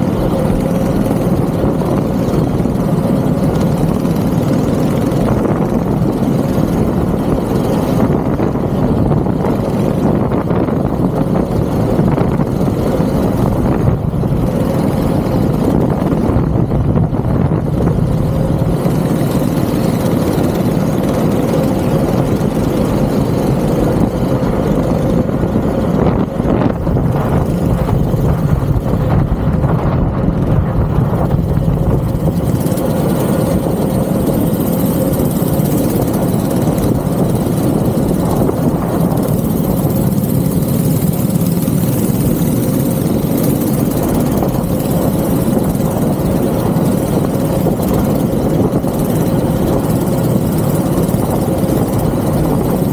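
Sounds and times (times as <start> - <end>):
go-kart engine running: 0.0 - 52.9.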